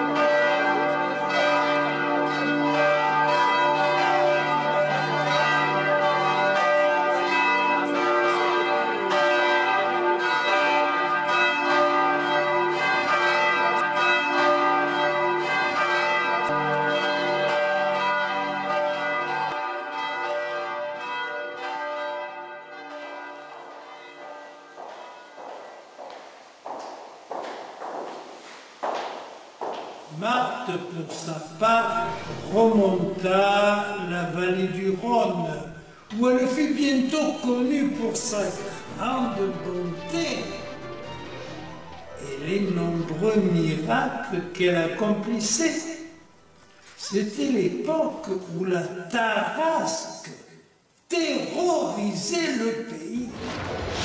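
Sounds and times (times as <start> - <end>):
church bells ringing: 0.0 - 48.0.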